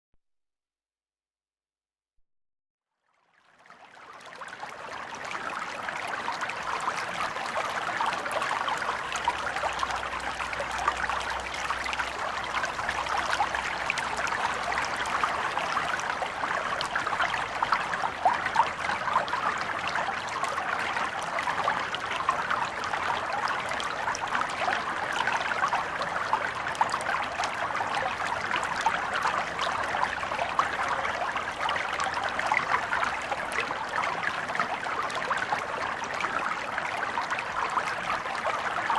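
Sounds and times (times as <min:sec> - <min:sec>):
stream water trickling: 0:03.0 - 0:38.9.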